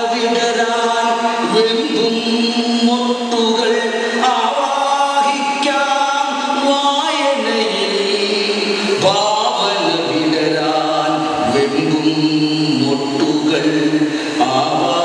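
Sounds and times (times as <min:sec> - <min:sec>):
chant-like singing: 0:00.0 - 0:15.0.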